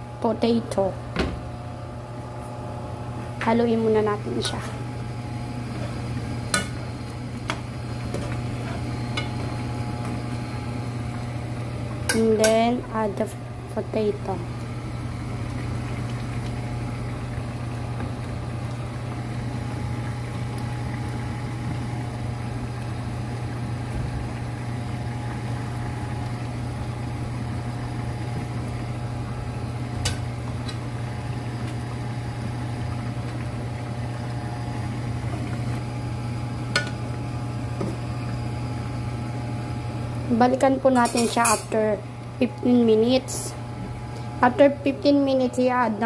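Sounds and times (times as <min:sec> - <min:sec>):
kitchen fan humming: 0:00.0 - 0:46.0
stew simmering: 0:02.0 - 0:46.0.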